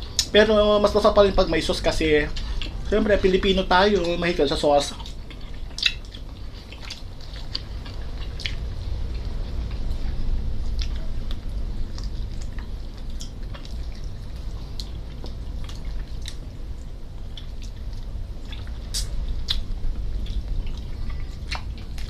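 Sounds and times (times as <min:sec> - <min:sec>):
low steady hum: 0:00.0 - 0:22.0
lip smacks and chewing: 0:02.2 - 0:02.9, 0:04.8 - 0:22.0.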